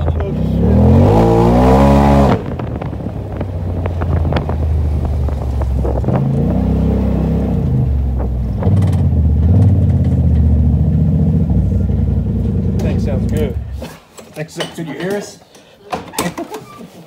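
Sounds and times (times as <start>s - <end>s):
turbocharged engine while driving: 0.0s - 13.8s.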